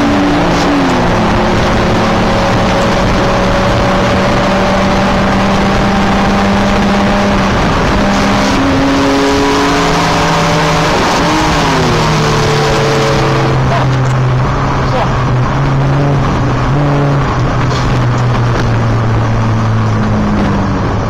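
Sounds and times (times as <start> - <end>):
race car engine running hard: 0.0 - 21.0
road and wind noise: 0.0 - 21.0.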